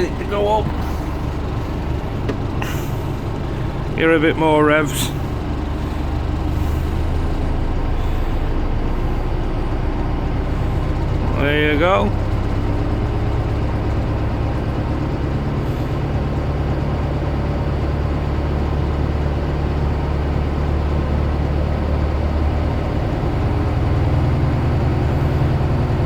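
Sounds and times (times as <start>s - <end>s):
diesel engine fast idle: 0.0s - 26.0s.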